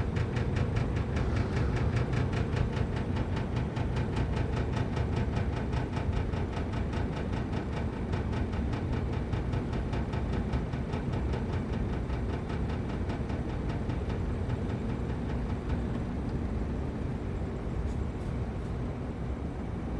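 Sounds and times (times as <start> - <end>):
air conditioner humming: 0.0 - 19.9.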